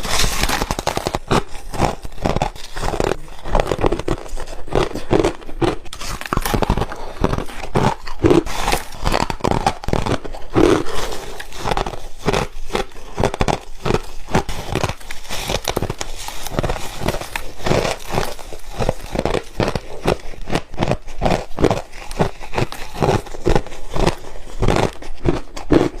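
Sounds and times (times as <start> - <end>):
ice being bitten and crunched: 0.0 - 26.0.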